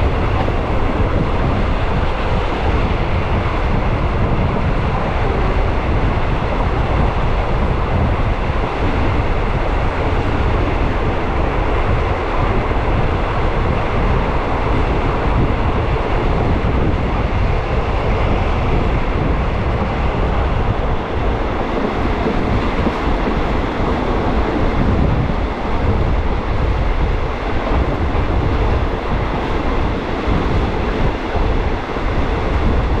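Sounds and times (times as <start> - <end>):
moving train rumble: 0.0 - 33.0.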